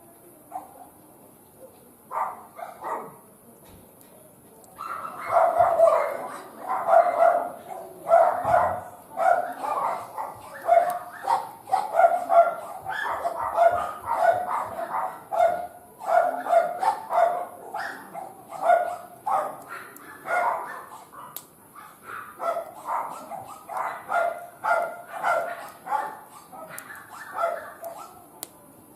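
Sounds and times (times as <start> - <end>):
dog barking: 1.6 - 3.2, 4.8 - 28.3.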